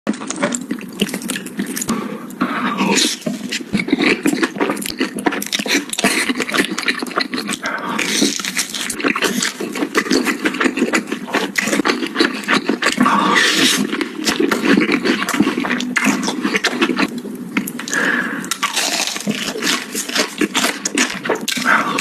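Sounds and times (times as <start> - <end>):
chewing and slurping: 0.1 - 22.0.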